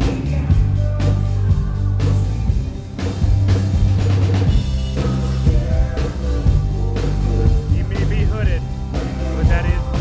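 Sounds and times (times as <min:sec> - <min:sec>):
drum kit: 0:00.0 - 0:10.0
electric guitars: 0:00.0 - 0:10.0.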